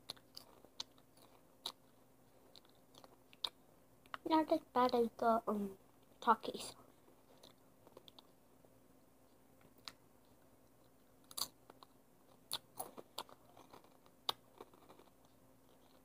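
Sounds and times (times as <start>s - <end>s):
child chewing crunchy snacks: 0.0s - 4.3s, 5.9s - 8.4s, 9.3s - 16.0s.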